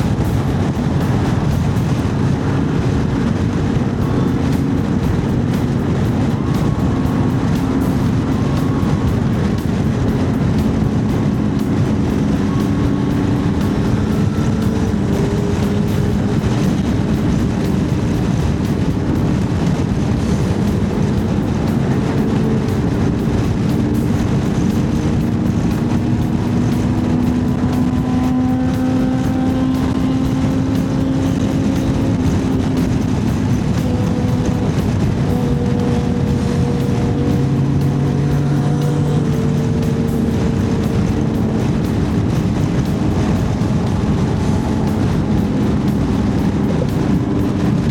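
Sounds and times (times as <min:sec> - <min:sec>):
motorcycle engine running: 0:00.0 - 0:47.9
wind rush: 0:00.0 - 0:47.9.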